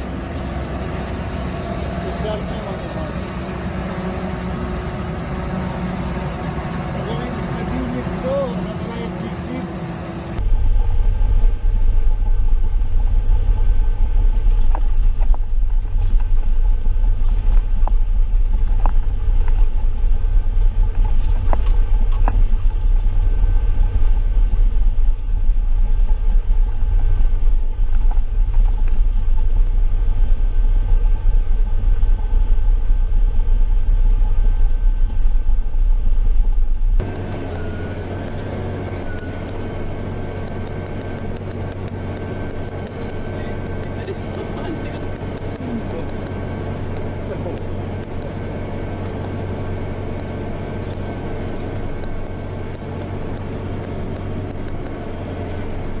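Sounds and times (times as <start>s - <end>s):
heavy machinery engine running: 0.0s - 56.0s.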